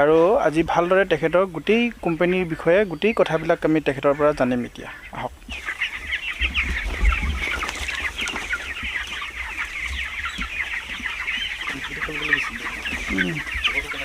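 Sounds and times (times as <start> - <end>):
chicks cheeping and chirping: 0.0 - 14.0
low chicken calls: 0.0 - 14.0.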